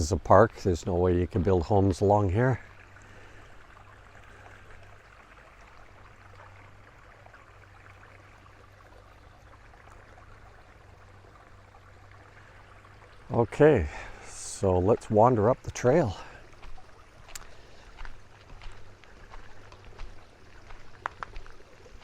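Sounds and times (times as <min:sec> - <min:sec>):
low steady hum: 0:00.0 - 0:22.0
water moving at shoreline: 0:00.0 - 0:22.0.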